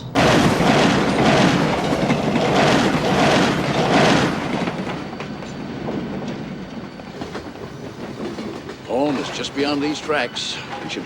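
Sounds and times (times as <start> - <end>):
train wheels clattering on rails: 0.0 - 11.0.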